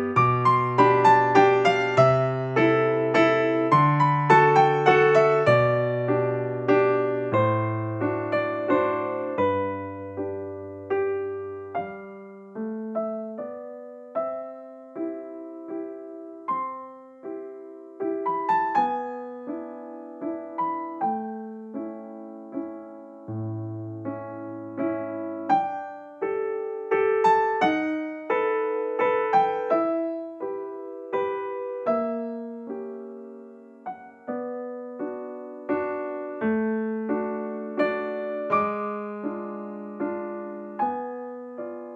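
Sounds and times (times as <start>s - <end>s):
piano melody: 0.0s - 41.9s.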